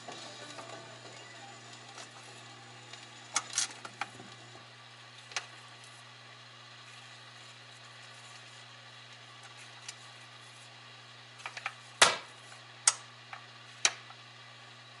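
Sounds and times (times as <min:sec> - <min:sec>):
mains hum: 0:00.0 - 0:15.0.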